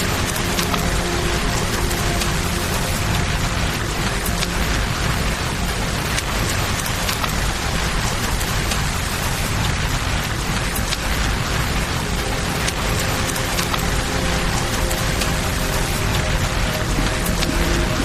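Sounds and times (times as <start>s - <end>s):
campfire popping and crackling: 0.0s - 18.0s
rain falling: 0.0s - 18.0s
river rushing: 0.0s - 18.0s.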